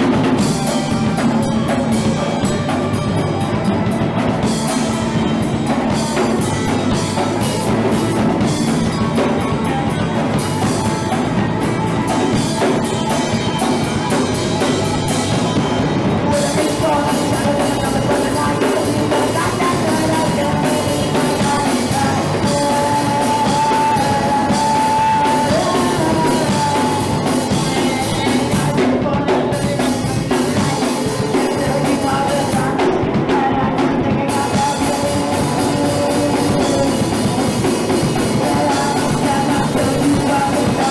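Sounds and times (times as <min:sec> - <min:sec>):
live punk rock band: 0:00.0 - 0:40.9
person singing: 0:00.0 - 0:40.9.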